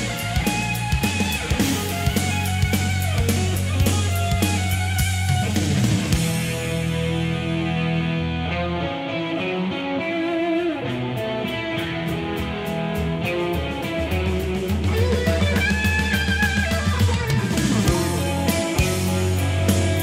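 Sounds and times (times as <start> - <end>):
steady drum beat: 0.0 - 7.5, 11.0 - 20.0
rock guitar: 0.0 - 20.0.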